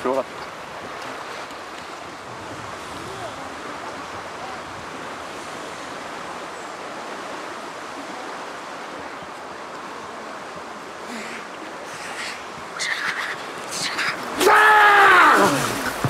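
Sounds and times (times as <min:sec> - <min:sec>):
outdoor background rush: 0:00.0 - 0:16.0.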